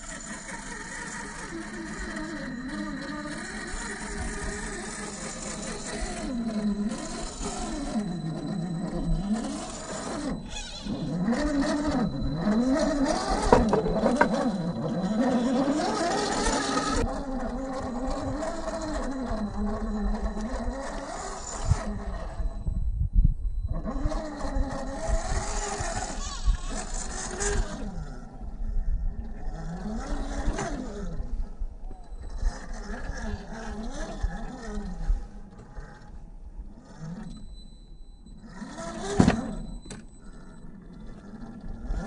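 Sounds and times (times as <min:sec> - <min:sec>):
electric motor whining: 0:00.0 - 0:42.0.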